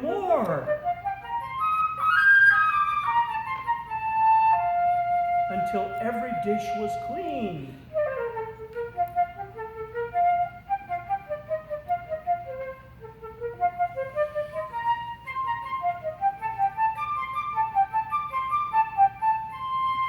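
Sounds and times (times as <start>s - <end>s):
solo flute playing: 0.0s - 20.0s.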